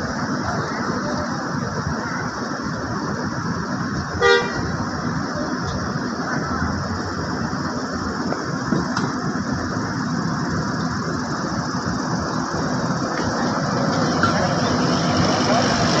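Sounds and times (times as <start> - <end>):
diesel bus engine running: 0.0 - 16.0.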